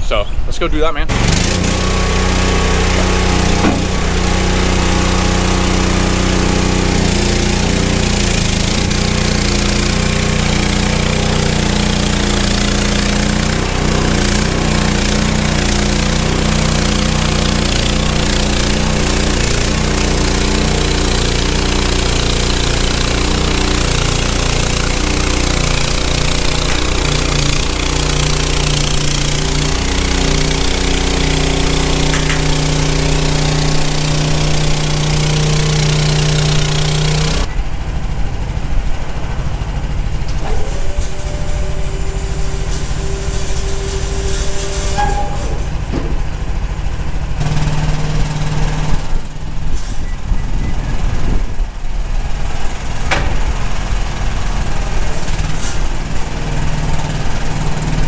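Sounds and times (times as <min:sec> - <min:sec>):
engine running at high throttle: 0:01.0 - 0:58.0
loud metal rattle: 0:01.1 - 0:50.0, 0:51.0 - 0:58.0.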